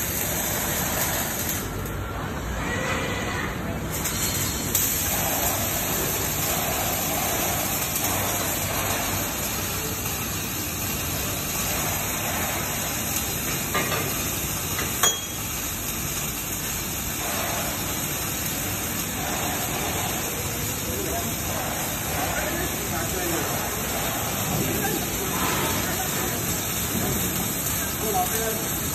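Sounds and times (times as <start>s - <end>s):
welding arc crackling hiss: 0.0s - 2.4s, 3.8s - 28.9s.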